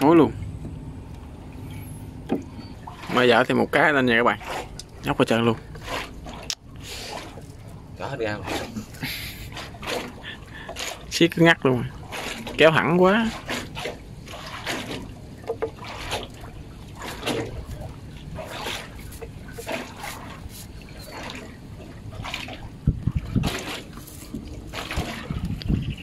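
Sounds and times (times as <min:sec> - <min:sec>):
running water trickling: 0:00.0 - 0:26.0
water splashes: 0:00.0 - 0:26.0.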